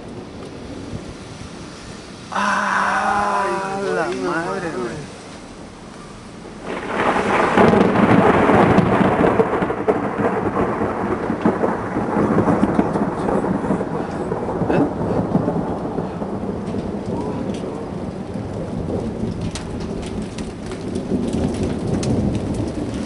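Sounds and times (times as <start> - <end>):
steady rain: 0.0 - 23.0
thunder crash rumbling: 0.0 - 23.0.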